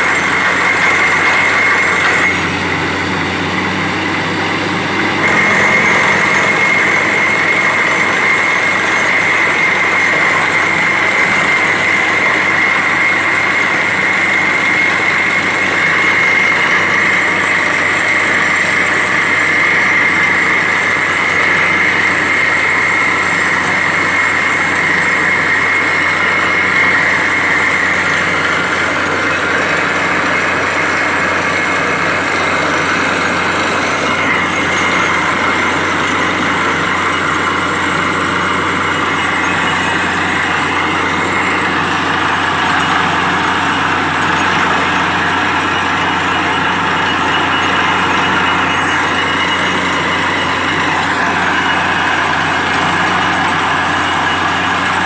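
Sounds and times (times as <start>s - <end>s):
drilling rig running: 0.0s - 55.0s
high machine whine: 0.0s - 55.0s.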